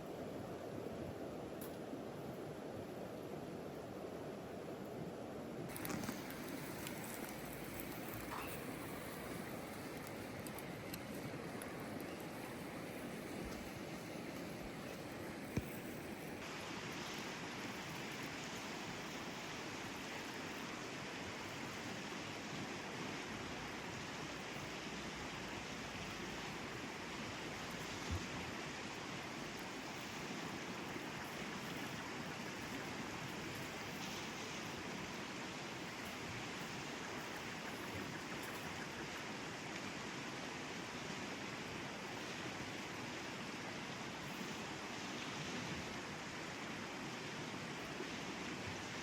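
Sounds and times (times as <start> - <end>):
stream flowing: 0.0 - 49.0.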